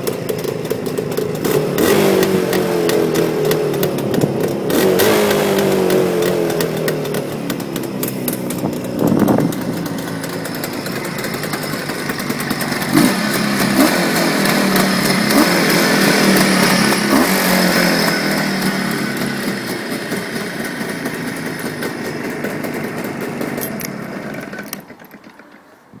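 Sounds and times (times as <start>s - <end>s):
two-stroke motorcycle engine revving: 0.0s - 25.6s.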